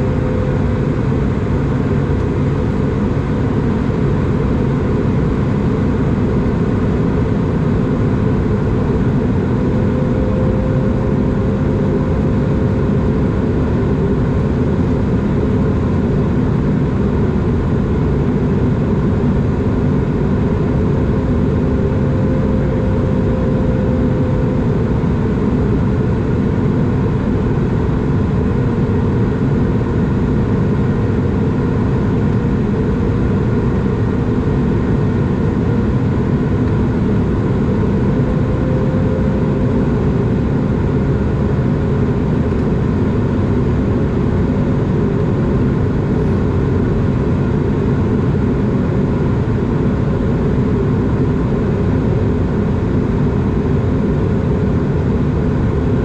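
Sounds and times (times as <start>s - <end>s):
jet engine rumble: 0.0s - 56.0s.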